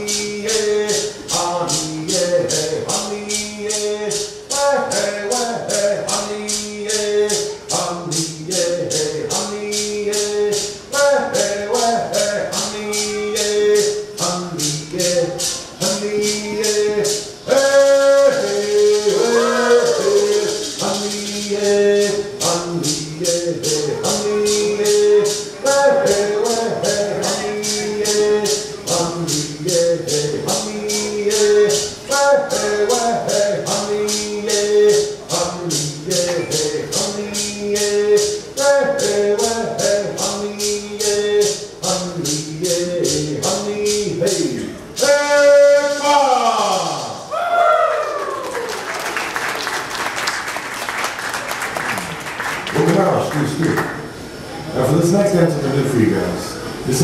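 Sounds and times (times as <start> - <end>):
voices singing a chant: 0.0 - 47.3
shaken rattle beat: 0.0 - 47.4, 48.2 - 54.5.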